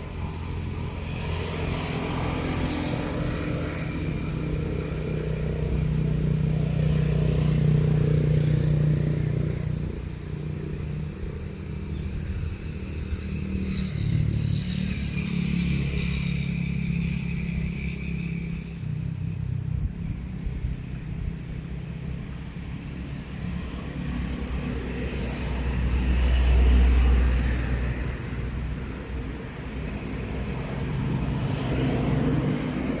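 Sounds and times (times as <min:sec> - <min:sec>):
motor vehicle passing: 0:00.0 - 0:33.0.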